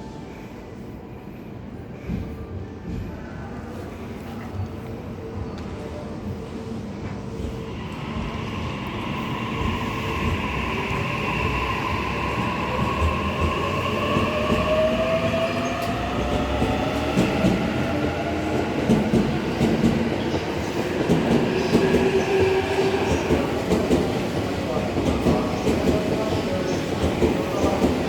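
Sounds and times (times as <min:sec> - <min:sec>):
train rolling noise: 0:00.0 - 0:28.0.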